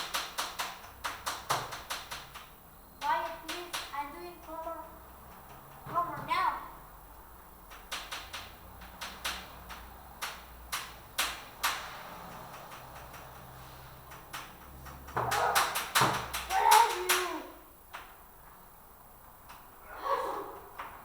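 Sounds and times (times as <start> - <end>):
knocks and clicks: 0.0 - 6.3, 7.6 - 18.2.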